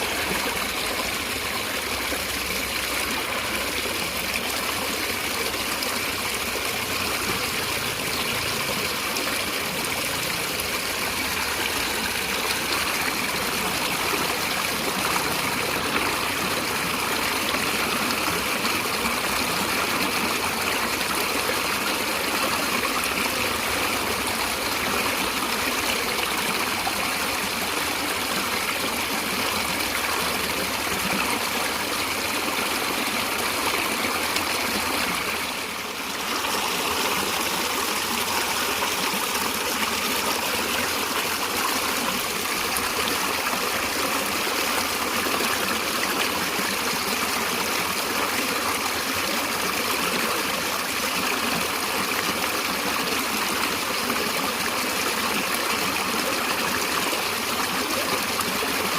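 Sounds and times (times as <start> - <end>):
stream water rushing and trickling: 0.0 - 58.9.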